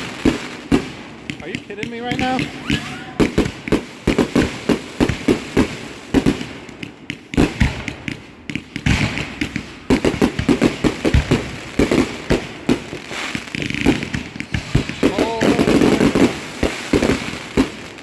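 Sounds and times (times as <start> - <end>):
firecrackers banging and popping: 0.0 - 18.0.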